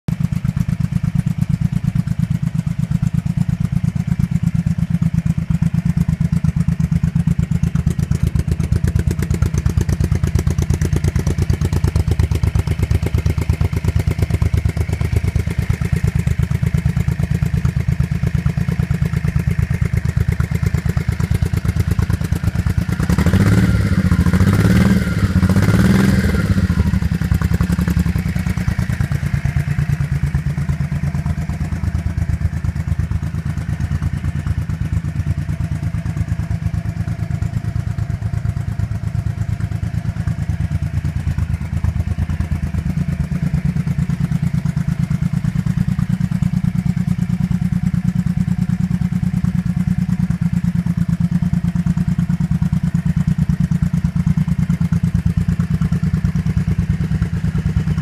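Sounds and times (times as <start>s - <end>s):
motorcycle engine idling: 0.1s - 58.0s
motorcycle engine revving: 0.1s - 58.0s.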